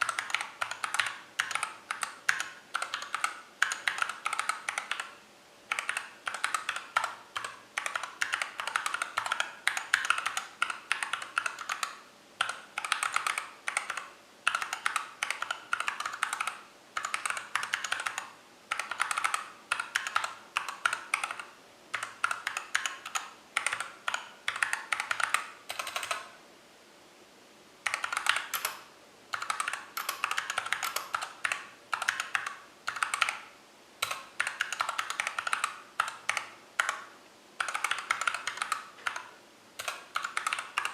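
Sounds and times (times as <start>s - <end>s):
mechanical keyboard typing: 0.0s - 26.3s, 27.8s - 40.9s.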